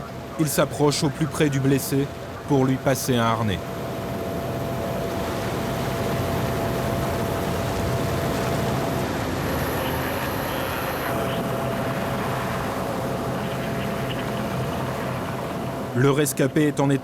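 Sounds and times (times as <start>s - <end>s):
helicopter hovering: 0.0s - 17.0s.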